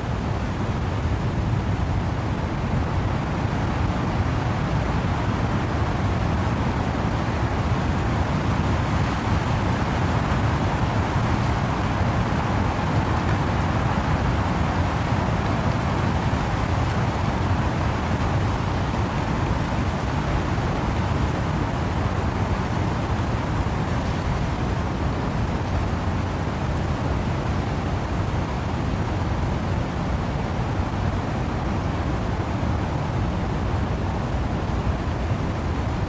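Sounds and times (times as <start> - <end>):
steady rain: 0.0 - 36.0
wind blowing through trees: 0.0 - 36.0.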